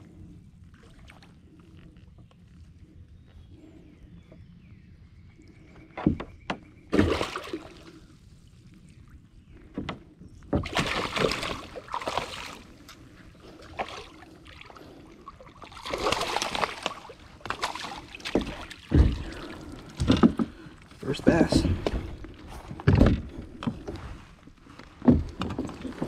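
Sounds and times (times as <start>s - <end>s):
water splashing around a kayak: 0.0s - 3.0s, 6.8s - 26.0s.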